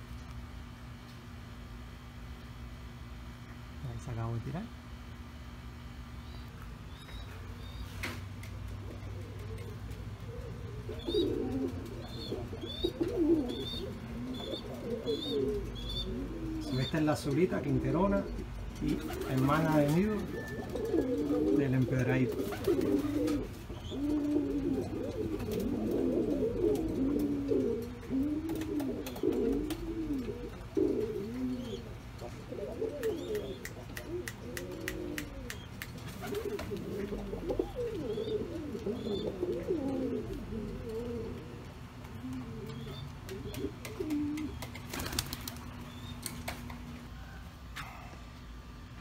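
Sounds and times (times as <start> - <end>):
pigeons cooing: 6.0 - 48.3.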